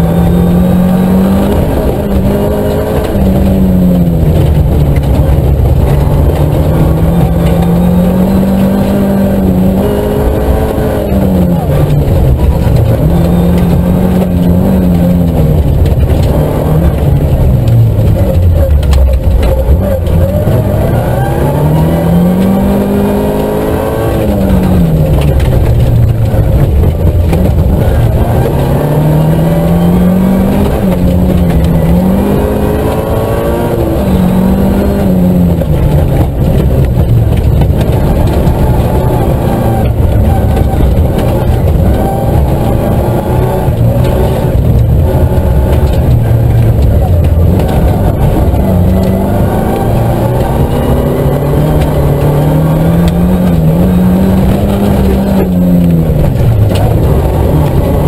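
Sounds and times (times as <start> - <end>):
rally car engine revving: 0.0 - 58.0
tyres rumbling on gravel: 0.0 - 58.0.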